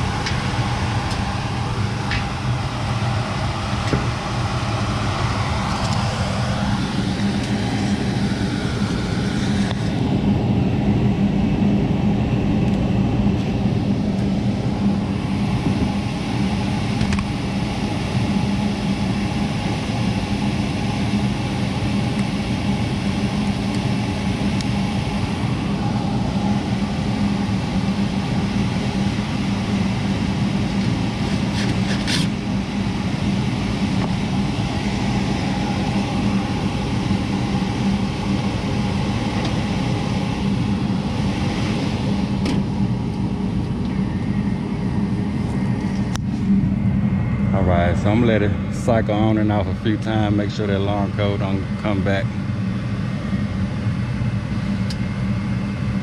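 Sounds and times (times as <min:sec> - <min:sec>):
furnace fans rushing: 0:00.0 - 0:56.0
gas furnace humming: 0:00.0 - 0:56.0.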